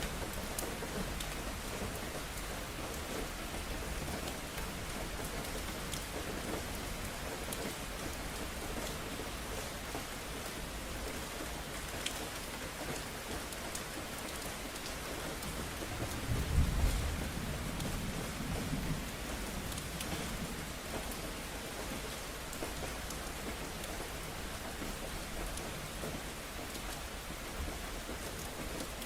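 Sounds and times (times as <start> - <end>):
rain on hard surfaces: 0.0 - 29.0.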